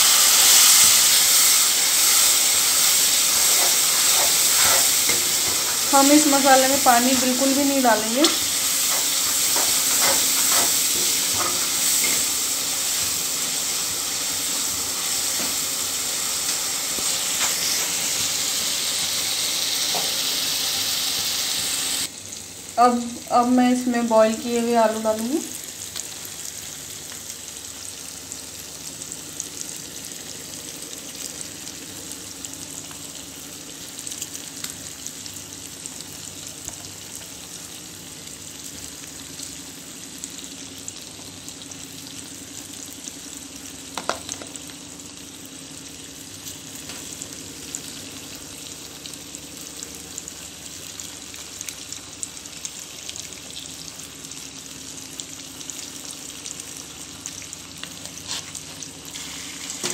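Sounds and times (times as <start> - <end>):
potatoes sizzling in a pan: 0.0 - 59.9.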